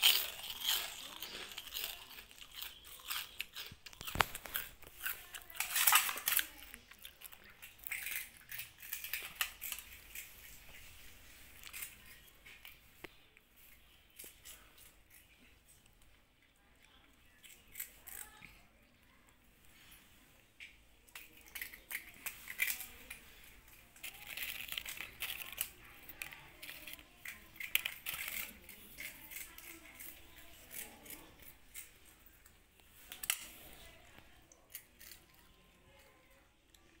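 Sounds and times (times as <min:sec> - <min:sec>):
kittens crunching snack: 0:00.0 - 0:37.0.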